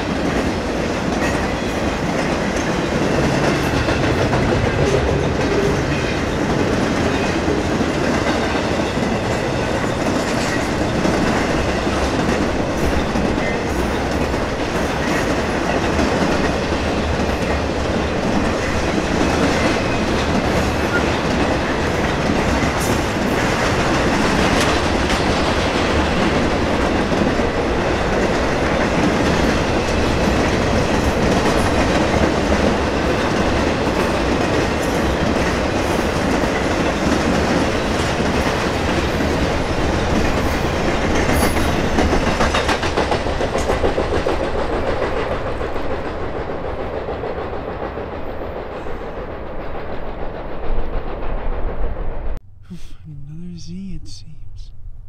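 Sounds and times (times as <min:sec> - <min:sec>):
train wheels rumbling on rail: 0:00.0 - 0:52.4.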